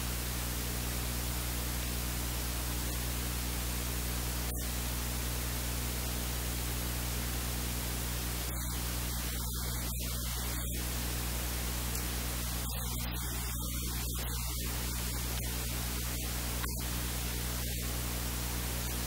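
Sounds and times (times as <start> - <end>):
electrical hum: 0.0 - 19.0
static hiss: 0.0 - 19.0.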